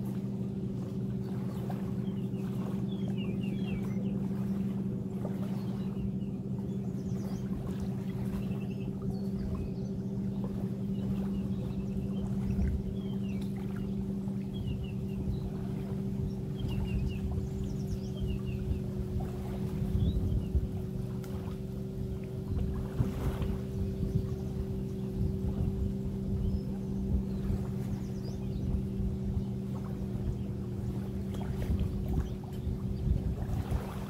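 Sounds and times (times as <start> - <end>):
motorboat engine drone: 0.0 - 34.0
wind rumbling on microphone: 0.0 - 34.0.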